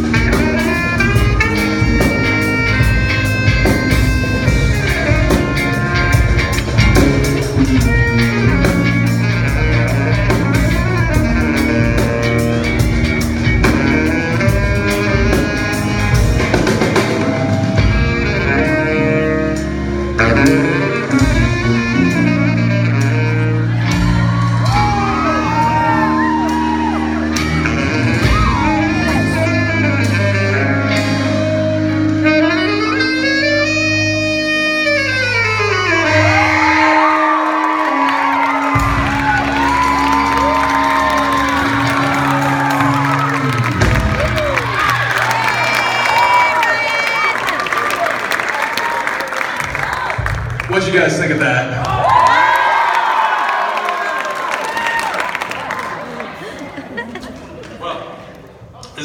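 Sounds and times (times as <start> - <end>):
saxophone: 0.0 - 57.0
live rock band playing: 0.0 - 57.1.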